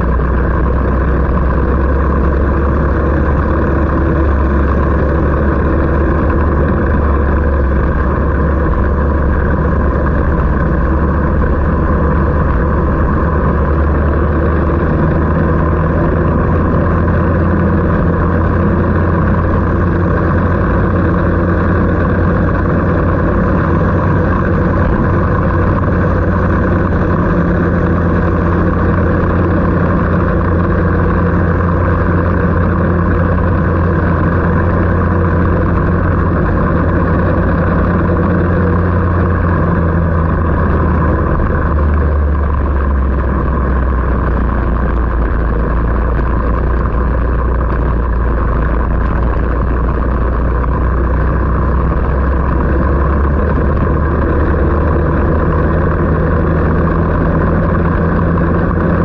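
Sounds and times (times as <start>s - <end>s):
constant rushing noise: 0.0s - 59.0s
engine running loudly: 0.0s - 59.0s.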